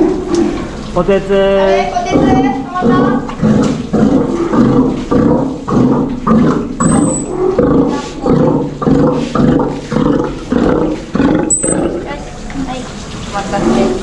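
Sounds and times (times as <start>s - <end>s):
sea lion roaring: 0.0s - 0.8s, 1.8s - 12.6s, 13.4s - 14.0s.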